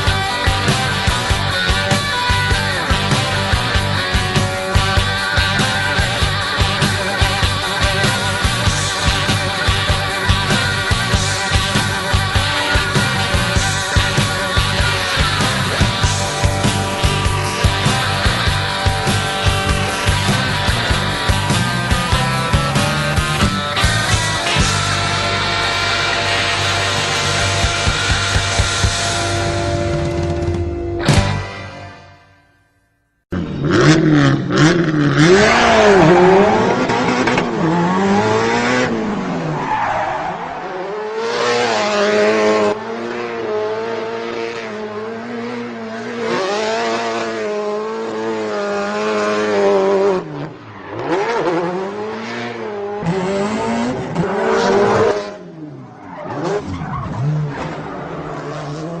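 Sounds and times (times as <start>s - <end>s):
vehicle engine revving: 0.0s - 31.2s, 33.4s - 59.0s.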